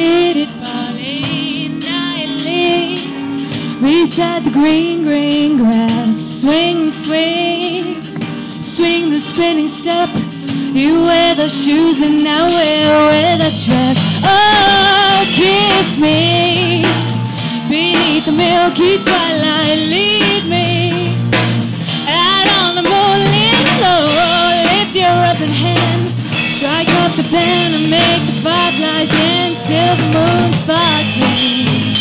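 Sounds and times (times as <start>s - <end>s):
bass guitar: 0.0s - 32.0s
drum kit: 0.0s - 32.0s
electric guitar: 0.0s - 32.0s
woman singing: 0.0s - 32.0s.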